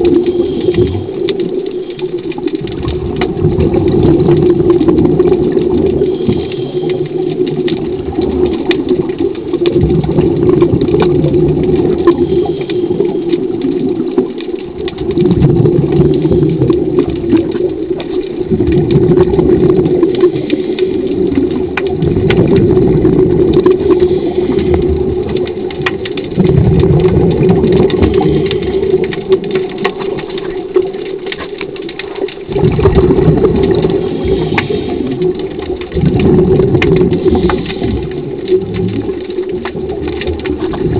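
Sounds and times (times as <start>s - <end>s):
scuba exhaust bubbles: 0.0s - 40.9s
underwater electric motor hum: 0.0s - 40.9s.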